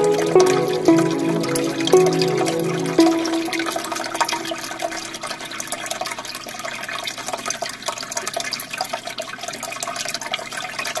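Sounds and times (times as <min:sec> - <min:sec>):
aquarium water bubbling: 0:00.0 - 0:11.0
filter water trickling: 0:00.0 - 0:11.0.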